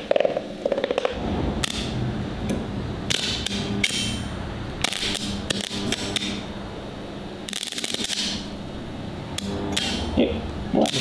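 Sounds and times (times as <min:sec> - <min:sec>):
arc welding sputtering crackle: 0:00.0 - 0:11.0
welder low hum: 0:01.0 - 0:11.0.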